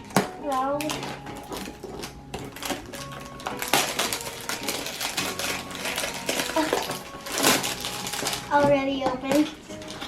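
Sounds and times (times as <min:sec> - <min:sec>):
plastic toy clicking and rattling: 0:00.1 - 0:10.0.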